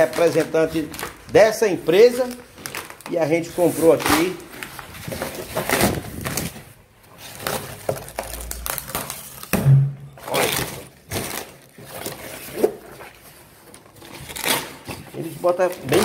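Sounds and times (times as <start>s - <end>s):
cardboard tearing and rustling: 0.0s - 9.6s, 10.2s - 16.0s.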